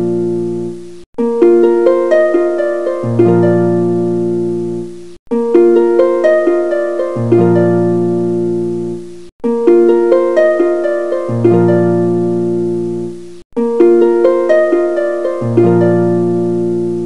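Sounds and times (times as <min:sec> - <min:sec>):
plucked harp-like music: 0:00.0 - 0:17.0.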